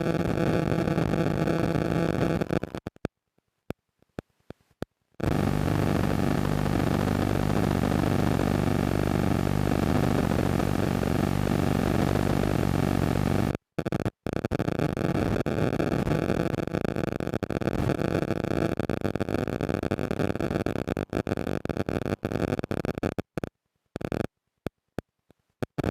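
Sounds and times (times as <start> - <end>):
radio static buzzing: 0.0 - 3.0, 5.2 - 24.3, 25.6 - 25.9.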